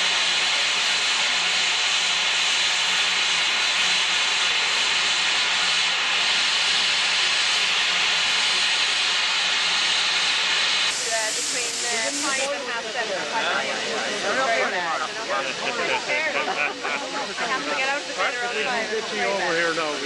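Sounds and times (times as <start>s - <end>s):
steam locomotive venting steam: 0.0s - 20.0s.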